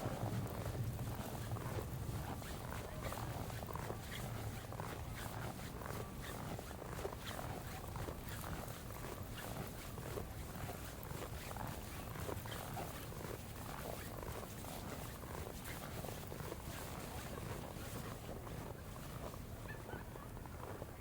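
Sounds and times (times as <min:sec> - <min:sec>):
footsteps crunching in snow: 0:00.0 - 0:21.0
wind rumbling on microphone: 0:00.0 - 0:21.0.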